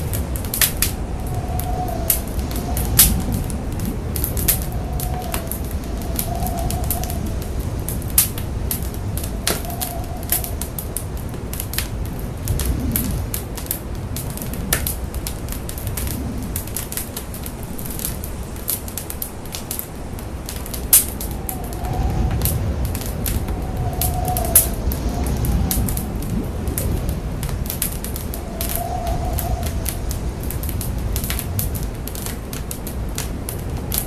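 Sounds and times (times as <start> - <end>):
fire crackling and popping: 0.0 - 34.0
fire rumbling: 0.0 - 34.0.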